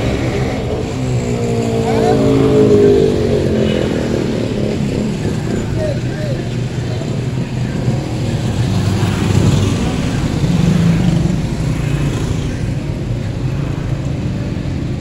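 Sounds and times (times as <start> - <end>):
motorcycle engines passing: 0.0 - 15.0
street traffic: 0.0 - 15.0.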